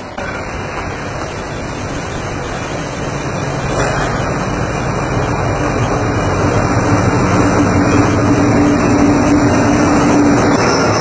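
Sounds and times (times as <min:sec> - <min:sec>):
diesel locomotive engine rumble: 0:00.0 - 0:11.0.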